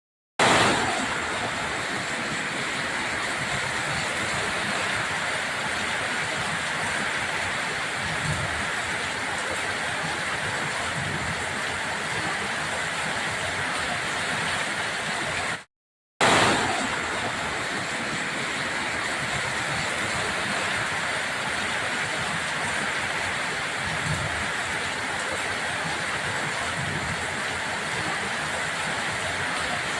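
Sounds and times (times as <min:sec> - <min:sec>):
torrential rain rushing: 0:00.4 - 0:29.9.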